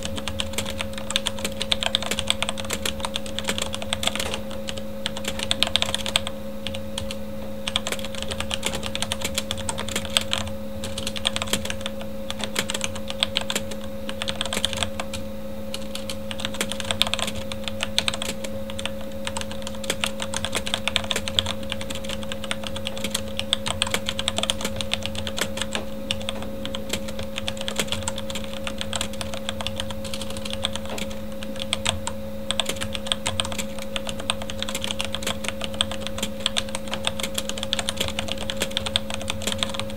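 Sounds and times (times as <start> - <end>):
computer fan hum: 0.0 - 39.9
mechanical keyboard typing: 0.0 - 39.9.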